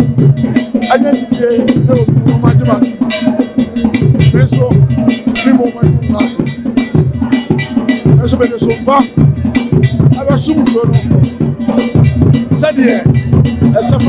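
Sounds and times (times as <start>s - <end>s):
drums beating: 0.0s - 14.0s
metal bell pattern: 0.0s - 14.0s.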